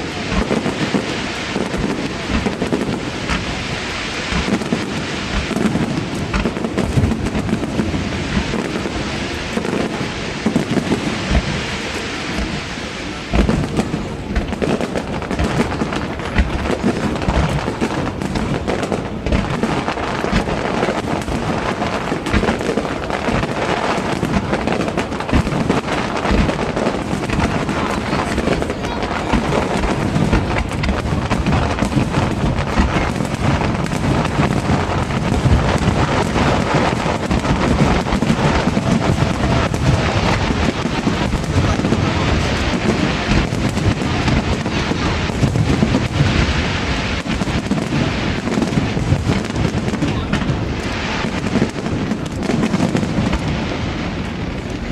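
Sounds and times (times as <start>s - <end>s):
fireworks bangs and crackles: 0.0s - 54.9s
people's voices: 0.0s - 54.9s.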